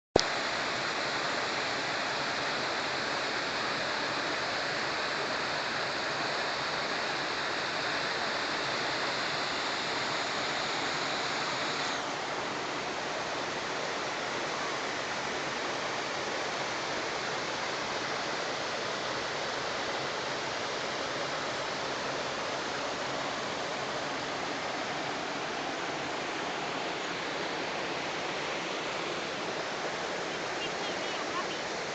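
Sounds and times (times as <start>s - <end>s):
stream water rushing over rocks: 0.2s - 31.9s.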